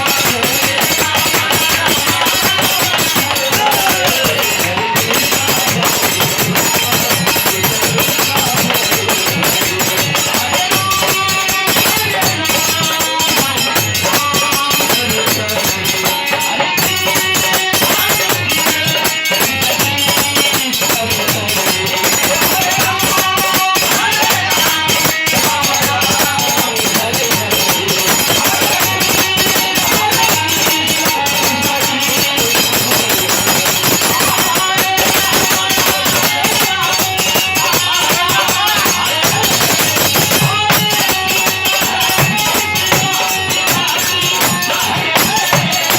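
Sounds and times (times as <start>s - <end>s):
devotional melody: 0.0s - 45.9s
jingling percussion: 0.0s - 45.9s.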